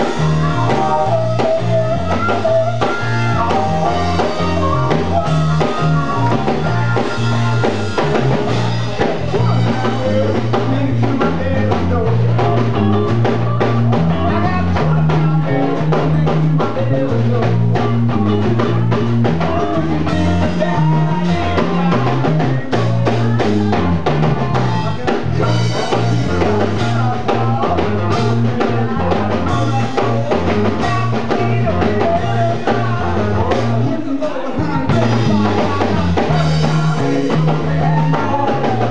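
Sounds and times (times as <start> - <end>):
blues harmonica: 0.0 - 38.9
drum kit: 0.0 - 38.9
electric bass: 0.0 - 38.9
electric guitar: 0.0 - 38.9
person singing: 0.0 - 38.9.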